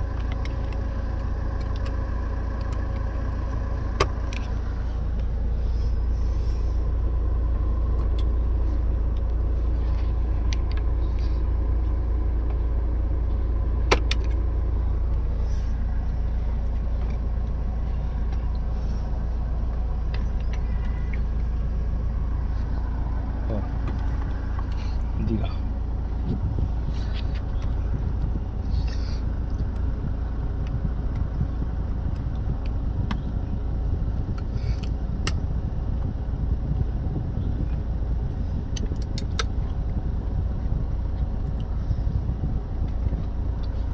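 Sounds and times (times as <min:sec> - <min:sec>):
steady low rumble: 0:00.0 - 0:43.9.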